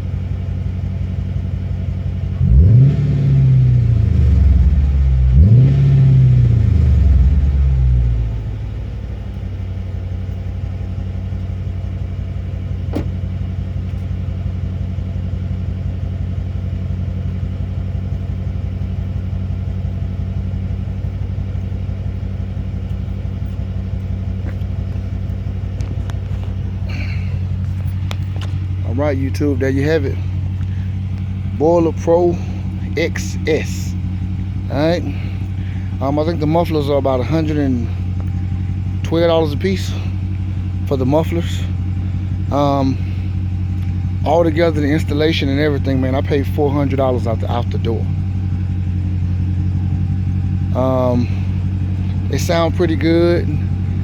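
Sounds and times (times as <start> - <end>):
car engine revving and idling: 0.0 - 54.0.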